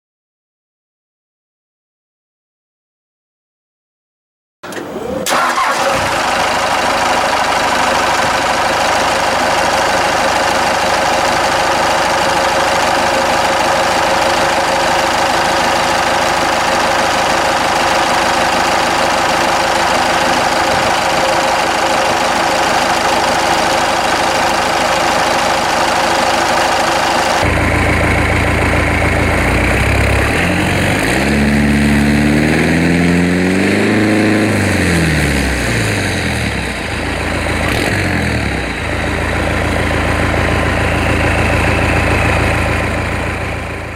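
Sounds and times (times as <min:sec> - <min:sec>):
diesel engine starting and idling: 0:04.6 - 0:43.9.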